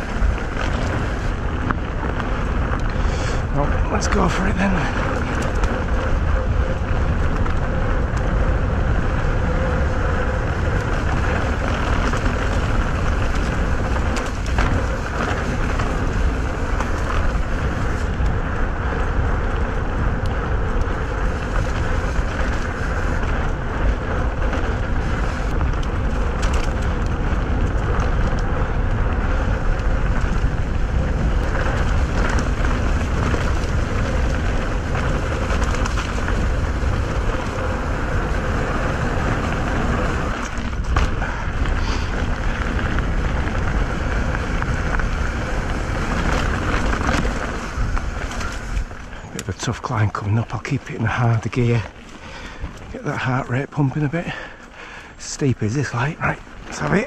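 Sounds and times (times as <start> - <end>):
bike tyres rumbling over dirt: 0.0 - 57.0
wind buffeting microphone: 0.0 - 57.0.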